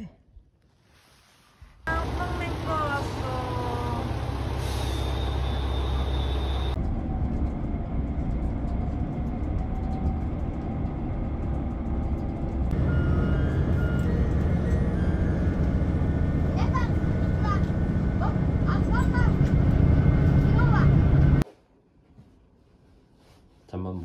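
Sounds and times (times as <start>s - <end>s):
vehicle engine rumble: 1.9s - 21.4s.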